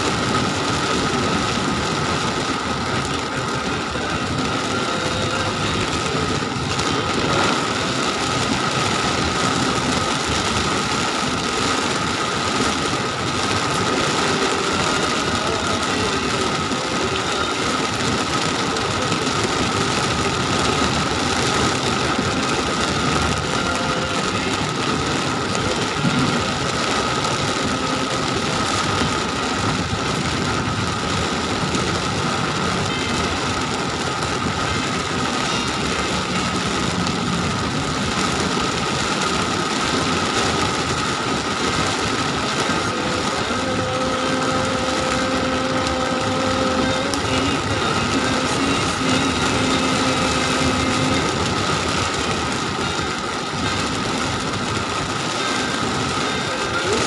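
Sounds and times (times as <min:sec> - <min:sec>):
car running: 0:00.0 - 0:57.0
heavy rain on car roof: 0:00.0 - 0:57.0.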